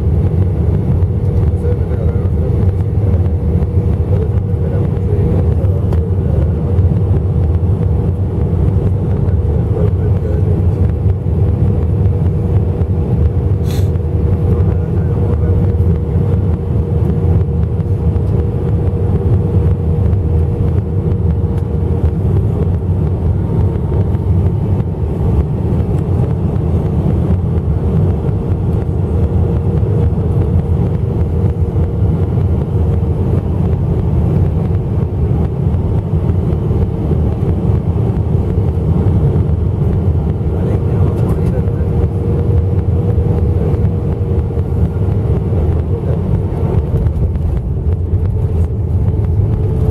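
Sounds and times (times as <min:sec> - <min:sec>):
aircraft engine rumble: 0:00.0 - 0:49.9.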